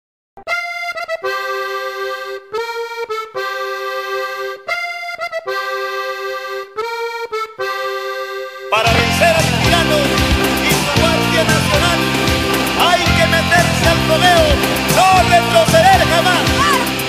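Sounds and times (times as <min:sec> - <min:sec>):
accordion playing held chords: 0:00.4 - 0:17.0.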